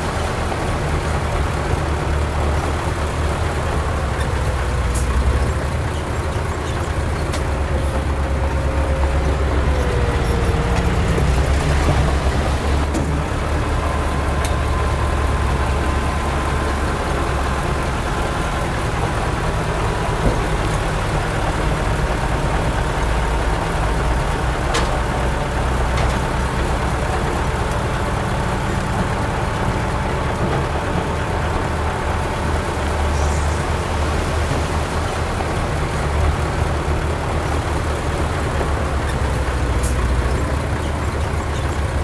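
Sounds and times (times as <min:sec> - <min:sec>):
diesel engine rumbling: 0:00.0 - 0:42.0.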